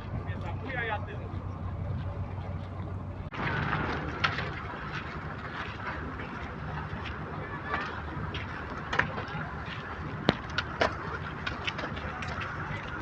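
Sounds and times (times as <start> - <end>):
ship engine low hum: 0.0 - 13.0.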